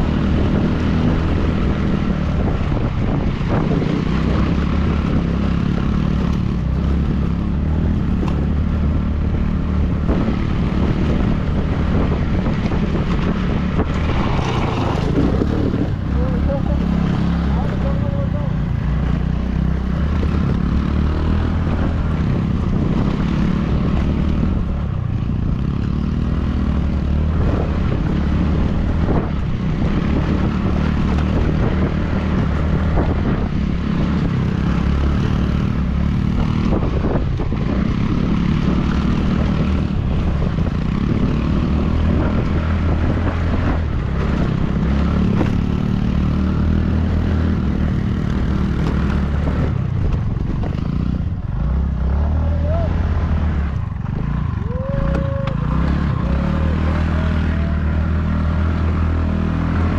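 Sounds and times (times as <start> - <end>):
road and wind noise: 0.0 - 59.9
vehicle engine humming: 0.0 - 59.9.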